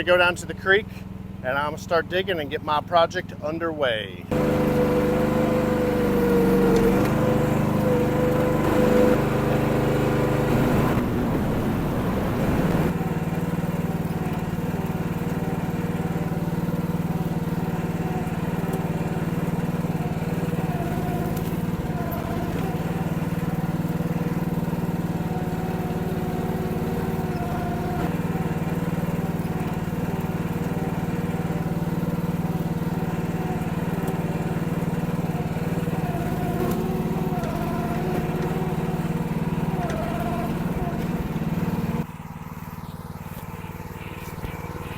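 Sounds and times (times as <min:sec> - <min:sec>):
mini excavator engine running: 0:00.0 - 0:44.9.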